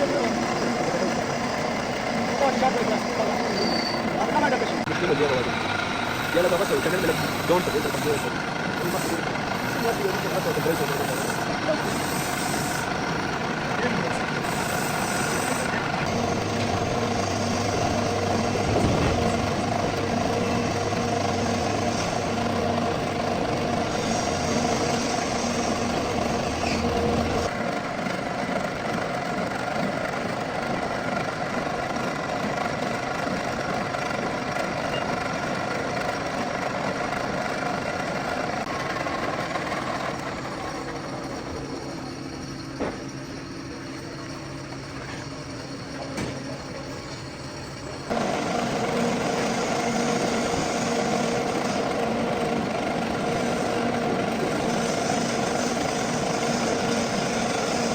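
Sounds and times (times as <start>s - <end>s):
metal lathe humming: 0.0s - 57.9s.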